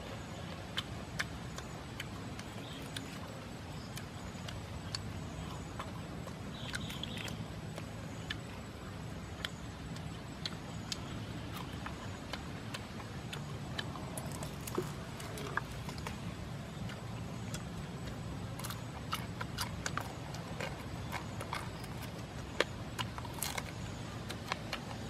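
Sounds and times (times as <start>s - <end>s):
low background noise: 0.0s - 25.0s
meat tearing and chewing: 0.2s - 25.0s.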